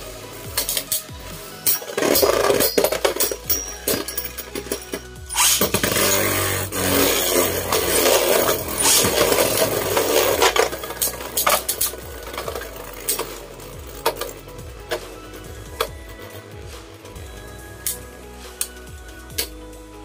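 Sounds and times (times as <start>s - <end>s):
spinning tops clashing: 0.4s - 17.2s.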